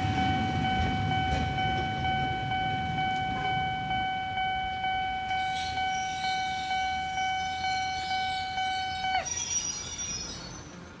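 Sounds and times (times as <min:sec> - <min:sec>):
level-crossing warning bell clanging: 0:00.0 - 0:11.0.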